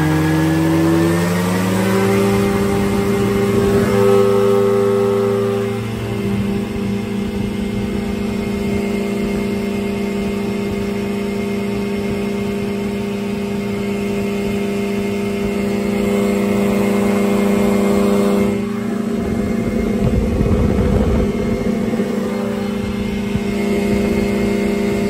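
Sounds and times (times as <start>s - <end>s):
light aircraft engine and propeller: 0.0s - 25.0s
wind buffeting microphone: 1.1s - 5.0s, 5.7s - 25.0s.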